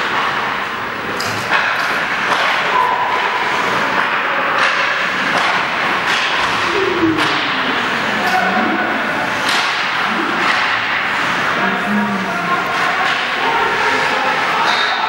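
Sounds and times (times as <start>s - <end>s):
hockey sticks knocking puck: 1.2s - 8.5s, 9.3s - 11.6s, 12.4s - 15.0s.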